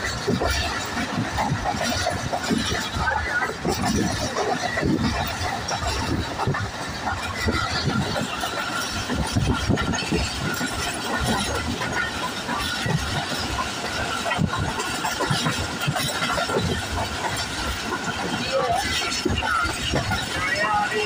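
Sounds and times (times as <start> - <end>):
train wheels rumbling over rails: 0.0 - 21.0.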